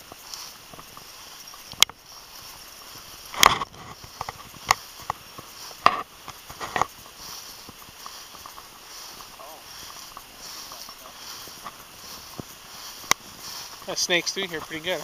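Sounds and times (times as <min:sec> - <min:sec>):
footsteps crunching through stubble: 0:00.0 - 0:15.0.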